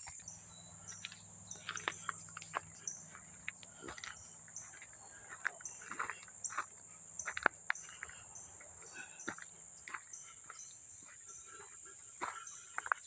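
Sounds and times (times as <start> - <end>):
footsteps on trail: 0.0 - 13.0
insects shrill drone: 0.0 - 13.0.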